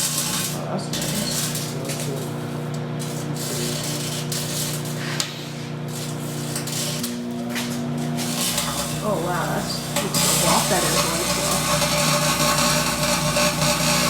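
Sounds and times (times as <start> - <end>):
microwave oven humming: 0.0 - 14.0.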